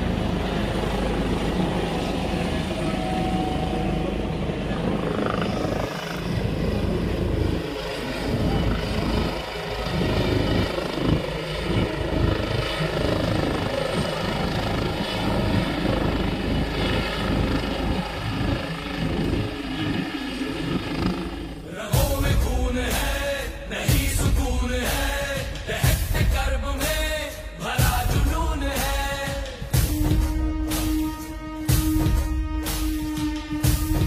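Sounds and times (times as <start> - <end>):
helicopter hovering: 0.0 - 34.0.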